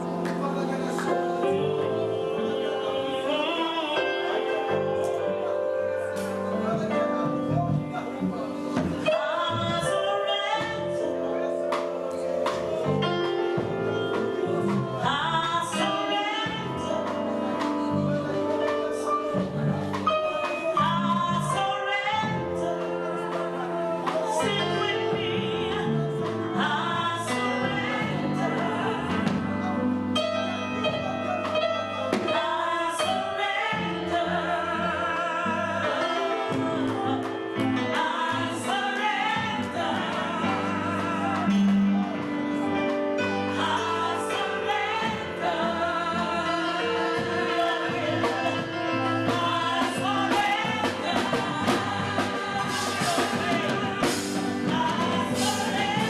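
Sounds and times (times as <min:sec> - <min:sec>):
gospel singing: 0:00.0 - 0:56.0
instrumental held chords: 0:00.0 - 0:56.0.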